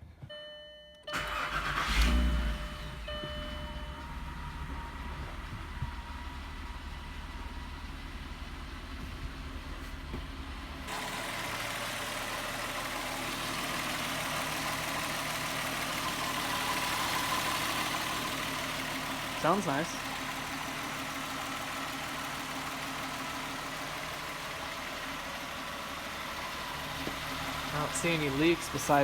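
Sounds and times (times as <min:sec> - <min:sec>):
car engine idling: 0:01.0 - 0:29.0.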